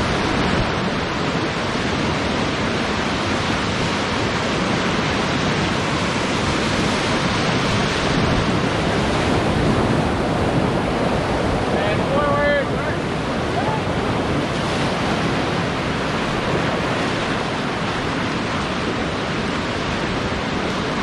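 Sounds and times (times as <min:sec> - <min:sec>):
whitewater river rushing: 0:00.0 - 0:21.0.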